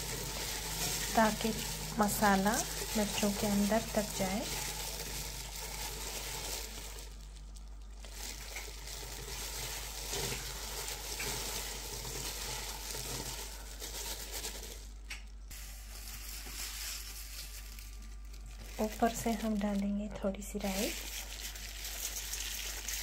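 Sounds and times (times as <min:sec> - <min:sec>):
chillies tossed in a dry pan: 0:00.0 - 0:23.0.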